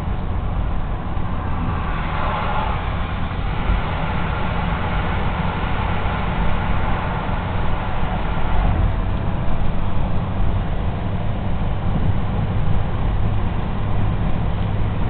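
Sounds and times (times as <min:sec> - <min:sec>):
car road noise from inside cabin: 0:00.0 - 0:15.0.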